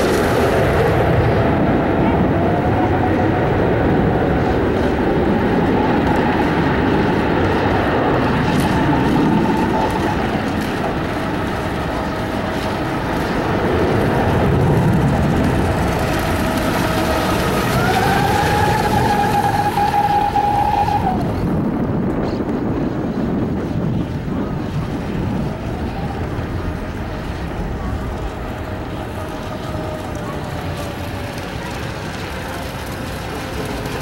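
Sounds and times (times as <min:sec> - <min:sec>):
wind and water rushing: 0:00.0 - 0:34.0
model boat motor whine: 0:00.2 - 0:21.7, 0:24.9 - 0:34.0.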